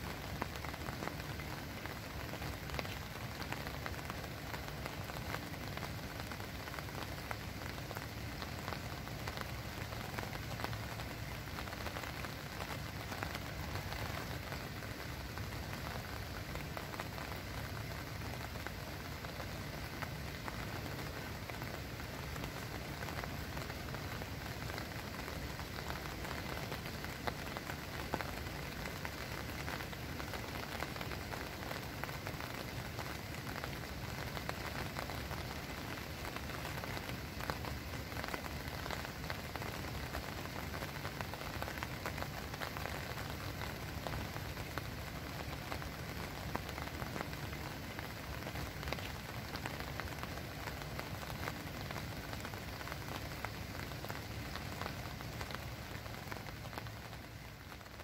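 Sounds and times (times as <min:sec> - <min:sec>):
rain on an umbrella: 0:00.0 - 0:58.0.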